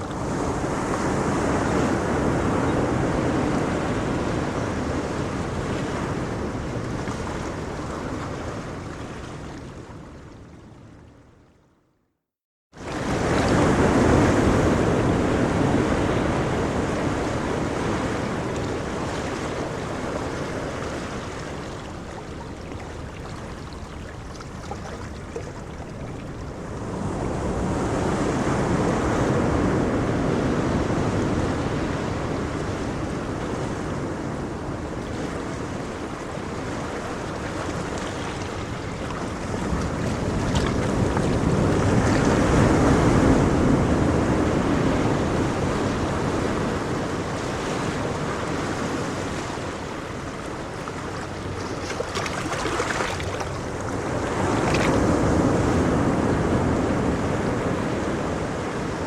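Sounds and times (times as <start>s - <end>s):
waves breaking on shore: 0.0s - 11.3s, 12.8s - 59.0s.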